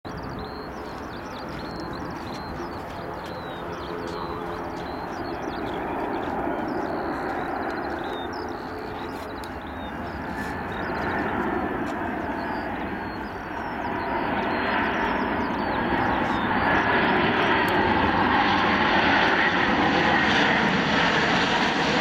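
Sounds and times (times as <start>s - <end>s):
birds chirping: 0.1s - 18.4s
jet engines rushing: 0.1s - 22.0s.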